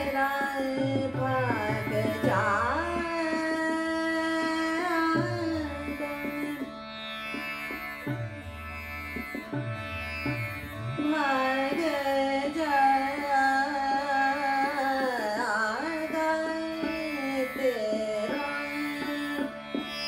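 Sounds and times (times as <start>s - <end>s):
tanpura drone: 0.0s - 20.0s.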